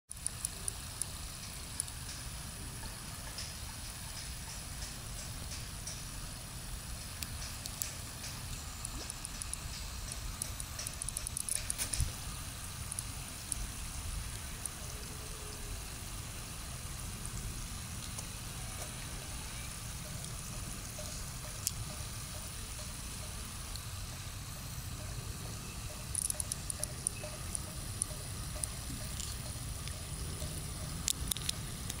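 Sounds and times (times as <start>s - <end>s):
rapid high ticking: 0.1s - 32.0s
water trickling over weir: 0.1s - 32.0s
steady low rumble: 0.2s - 32.0s.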